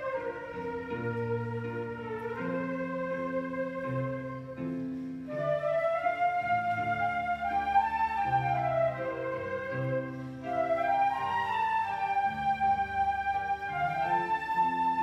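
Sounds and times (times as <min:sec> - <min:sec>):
flute ensemble playing: 0:00.0 - 0:15.0.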